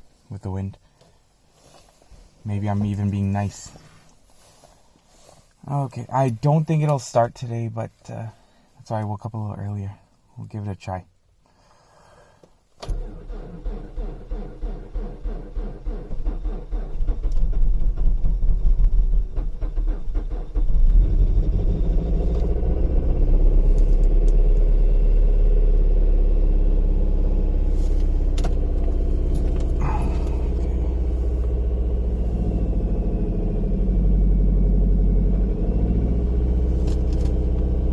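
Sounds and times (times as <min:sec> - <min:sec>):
car engine starting and idling: 0:00.1 - 0:07.3, 0:12.7 - 0:37.9.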